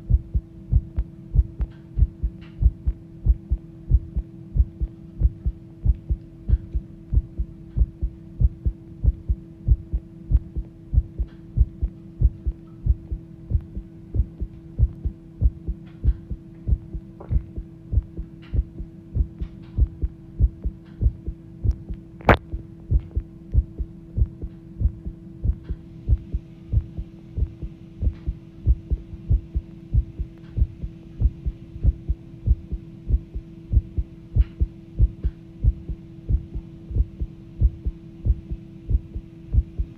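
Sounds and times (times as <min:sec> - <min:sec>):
fast heartbeat thuds: 0:00.0 - 0:39.9
steady hum: 0:00.0 - 0:39.9.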